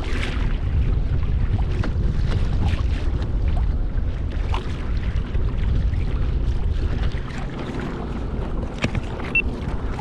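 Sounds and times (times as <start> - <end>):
boat engine rumble: 0.0 - 10.0
water splashing against hull: 0.0 - 10.0
wind buffeting microphone: 0.0 - 10.0.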